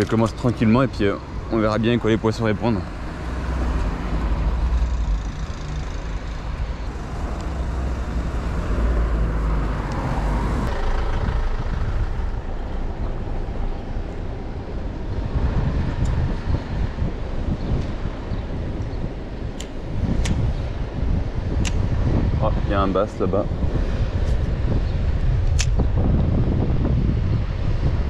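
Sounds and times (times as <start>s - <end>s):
cars passing: 0.0s - 28.0s.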